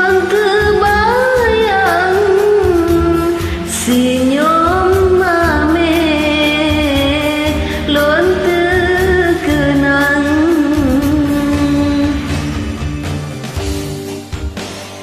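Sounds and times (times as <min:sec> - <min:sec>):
person singing: 0:00.0 - 0:13.0
karaoke backing track: 0:00.0 - 0:15.0.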